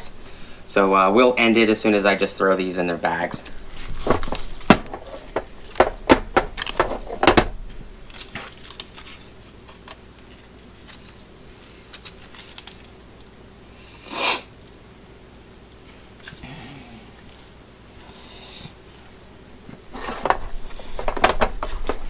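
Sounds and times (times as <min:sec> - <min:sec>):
webbing and bags rustling: 0:00.0 - 0:13.3, 0:17.1 - 0:22.0.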